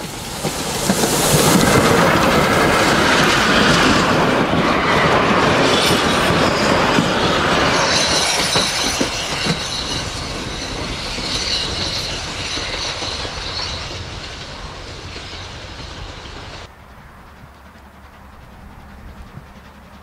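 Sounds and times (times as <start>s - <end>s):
train carriages rolling past: 0.0s - 20.0s
wheels clicking over rail joints: 0.0s - 20.0s.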